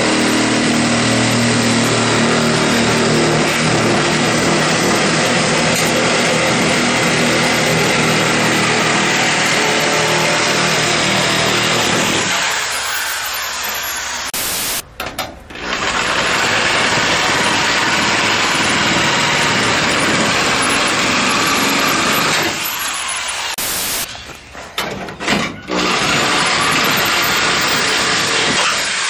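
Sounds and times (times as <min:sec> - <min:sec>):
cut-off tool whine on sheet metal: 0:00.0 - 0:14.8, 0:15.6 - 0:24.1, 0:25.7 - 0:29.0.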